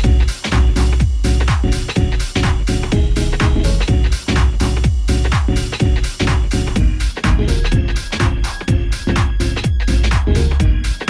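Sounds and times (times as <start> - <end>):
electronic dance music: 0.0 - 11.0
steady kick drum: 0.0 - 11.0.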